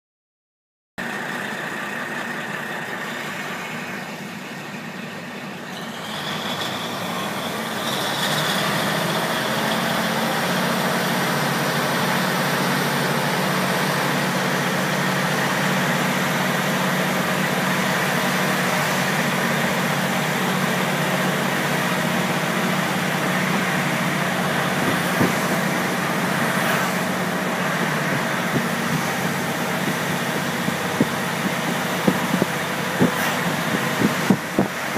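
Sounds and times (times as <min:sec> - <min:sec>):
diesel railcar engine droning: 0:01.0 - 0:34.9.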